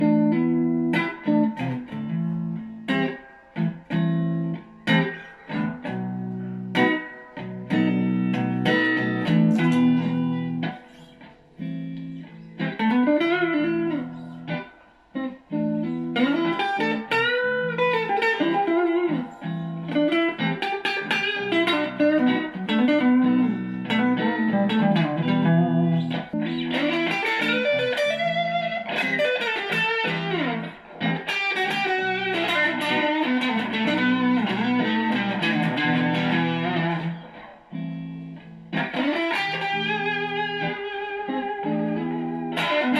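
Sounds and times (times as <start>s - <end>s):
electric guitar single-note lines: 0.0s - 42.9s.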